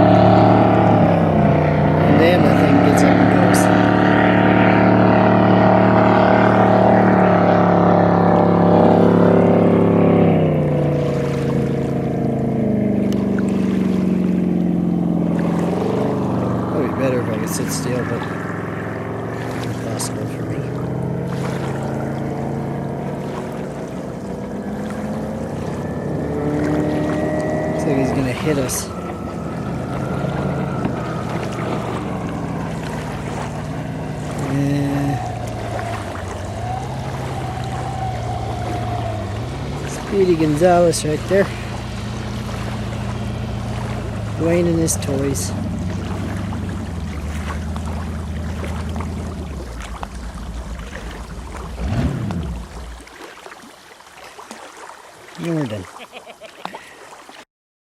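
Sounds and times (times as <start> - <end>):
boat engine running loud: 0.0 - 53.2
wind and water rushing: 0.0 - 57.4.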